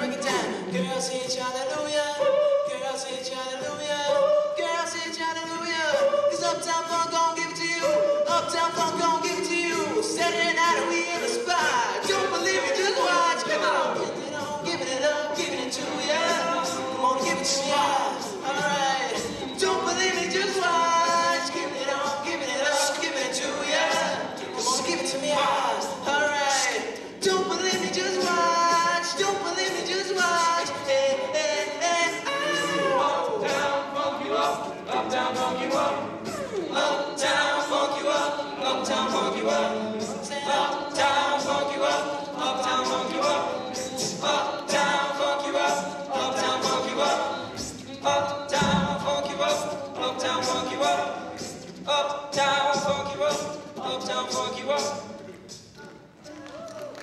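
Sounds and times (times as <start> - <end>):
male a cappella singing: 0.0 - 55.5.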